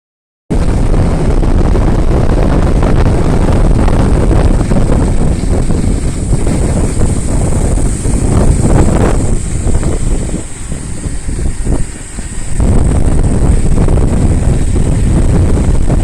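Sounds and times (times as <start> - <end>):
wind buffeting microphone: 0.5 - 16.0.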